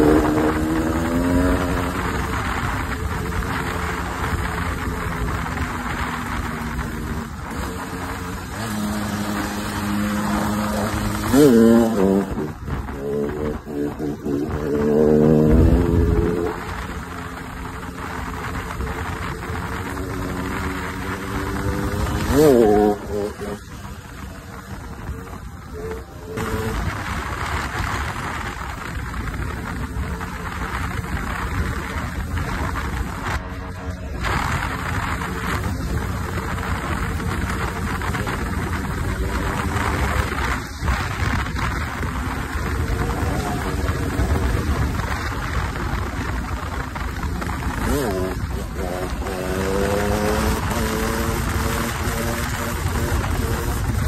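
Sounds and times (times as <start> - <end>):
dirt bike engine revving: 0.0 - 54.0
wind rushing over microphone: 0.0 - 54.0.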